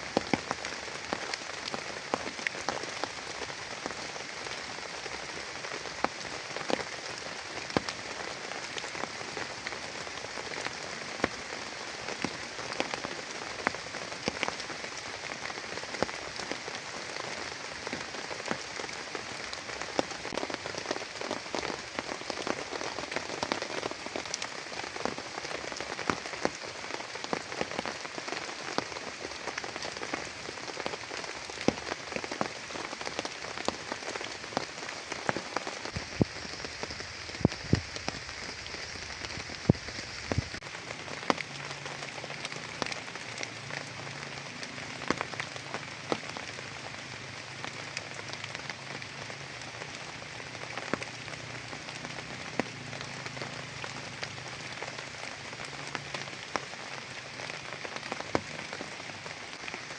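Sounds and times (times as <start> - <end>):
heavy rain: 0.0 - 59.9
raindrops pattering on surface: 0.0 - 59.9.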